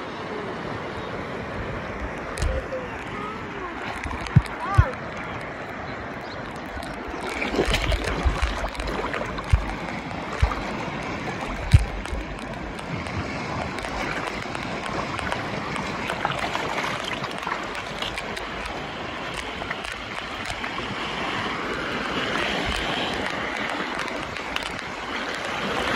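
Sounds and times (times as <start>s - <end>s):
seawater washing over rock: 1.9s - 25.9s.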